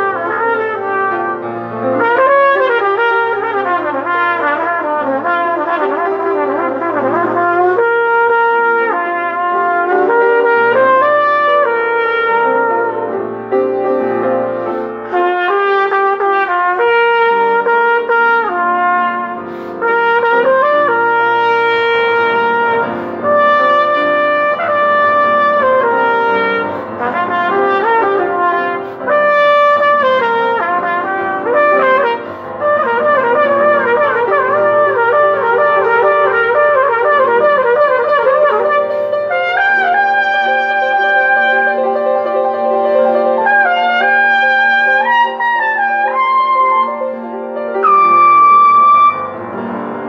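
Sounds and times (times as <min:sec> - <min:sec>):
trumpet playing: 0:00.0 - 0:49.8
trumpeter breathing: 0:00.3 - 0:11.8, 0:12.4 - 0:16.9, 0:17.6 - 0:50.0.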